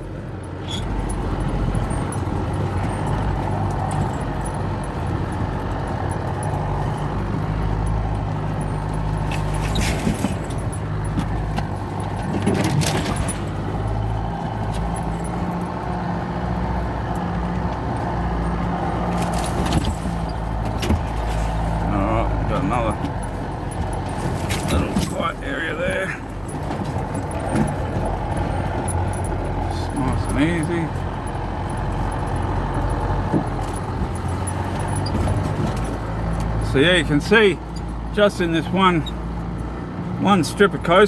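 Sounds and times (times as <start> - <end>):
road noise: 0.0 - 41.0.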